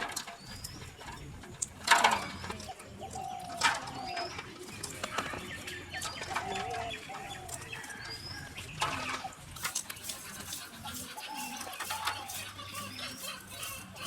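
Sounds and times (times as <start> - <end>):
low bird coos: 2.1 - 14.0.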